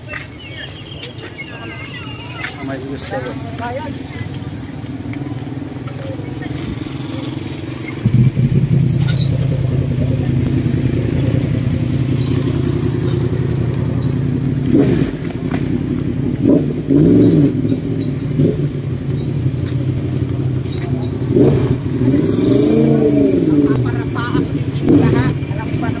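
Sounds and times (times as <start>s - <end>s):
motorcycle engines revving: 0.0s - 26.0s
motorcycles idling: 0.0s - 26.0s.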